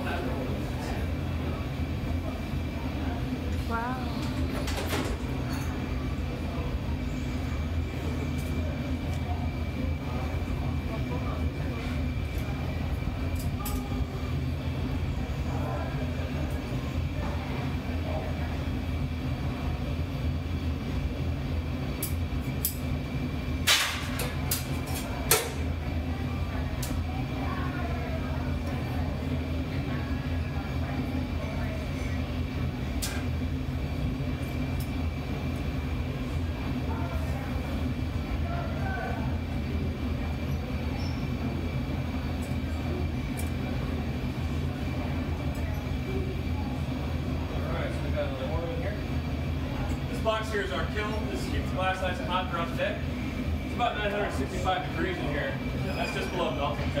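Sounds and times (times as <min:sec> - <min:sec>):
faint constant hum: 0:00.0 - 0:57.0
furnace burners roaring: 0:00.0 - 0:57.0.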